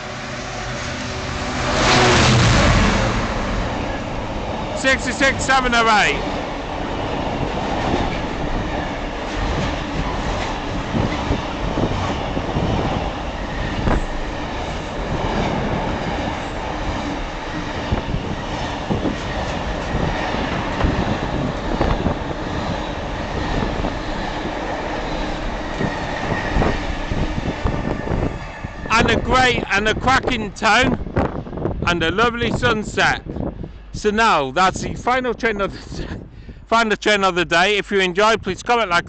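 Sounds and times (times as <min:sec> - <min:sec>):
freight train wheels rumbling: 0:00.0 - 0:36.7.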